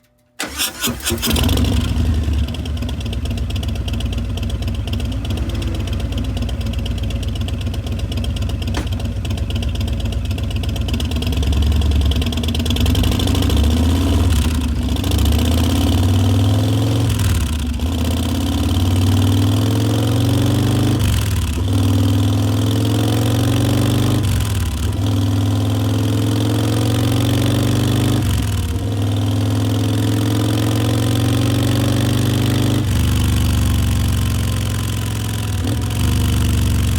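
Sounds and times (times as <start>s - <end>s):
motorcycle engine idling and revving: 0.4s - 36.9s.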